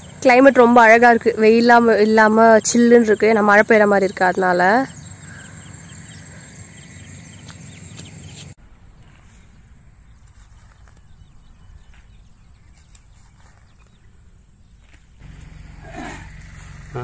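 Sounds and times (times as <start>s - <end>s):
insects chirping: 0.0s - 8.6s, 9.8s - 17.0s.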